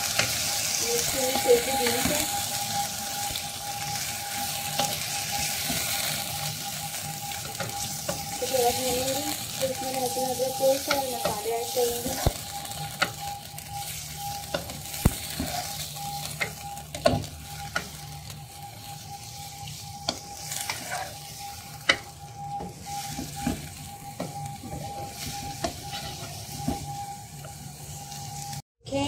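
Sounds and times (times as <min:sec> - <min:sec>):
meat sizzling in hot oil: 0:00.0 - 0:28.6
spatula scraping a pan: 0:00.0 - 0:28.6.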